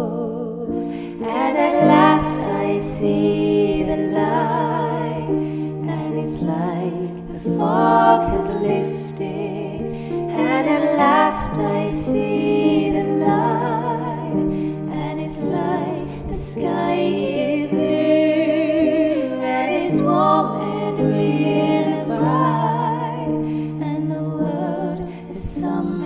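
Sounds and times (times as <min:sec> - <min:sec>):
person singing with vibrato: 0:00.0 - 0:26.0.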